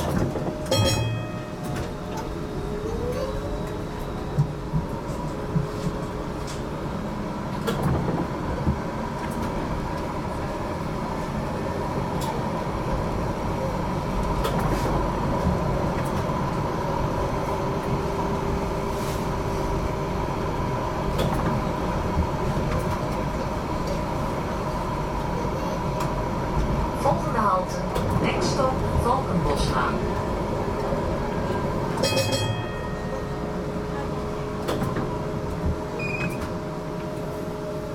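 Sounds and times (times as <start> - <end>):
tram wheels rumbling on rail: 0.0 - 37.9.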